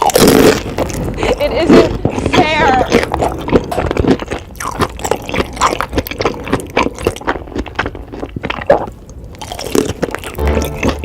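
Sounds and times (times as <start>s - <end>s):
wet eating slurps and smacks: 1.7s - 11.0s.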